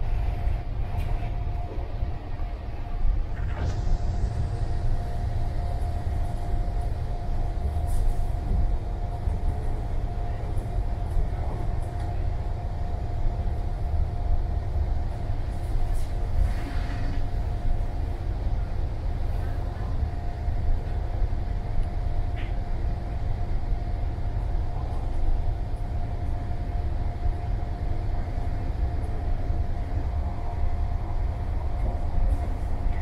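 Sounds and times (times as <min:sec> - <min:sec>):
train rumble: 0:00.0 - 0:33.0
train whine: 0:00.0 - 0:33.0.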